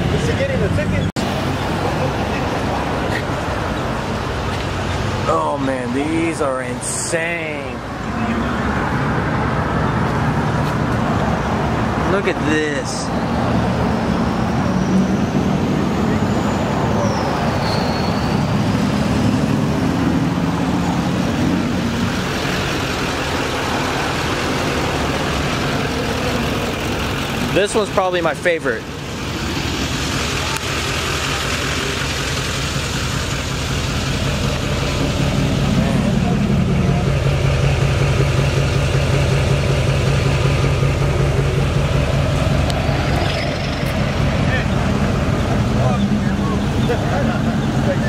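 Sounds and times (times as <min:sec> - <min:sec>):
outdoor noise: 0:00.0 - 0:48.0
truck engine idling: 0:00.0 - 0:48.0.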